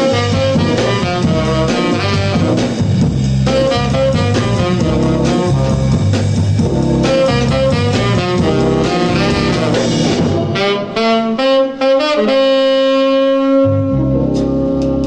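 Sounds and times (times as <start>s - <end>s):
saxophone with band: 0.0s - 15.0s.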